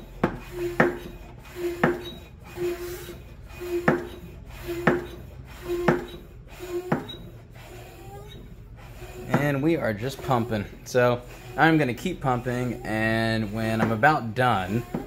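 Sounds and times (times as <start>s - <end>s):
hand pump squeaking and clicking: 0.0s - 15.0s.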